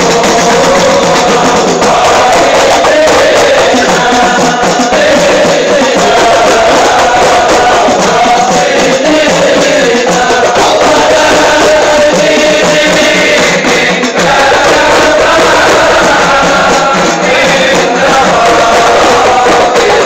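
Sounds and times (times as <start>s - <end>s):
men singing a devotional chant: 0.0s - 20.0s.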